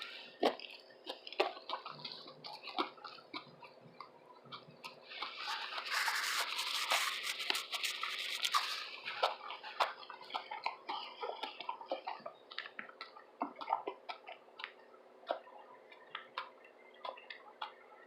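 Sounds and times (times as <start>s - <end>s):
wet chewing of sandwich: 0.0s - 18.0s
mouth clicks and smacks: 0.4s - 18.0s.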